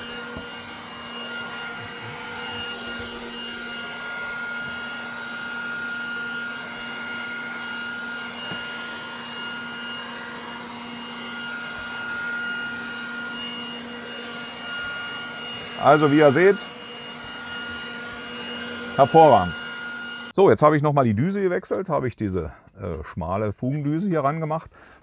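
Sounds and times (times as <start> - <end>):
handheld vacuum cleaner running: 0.0 - 20.3.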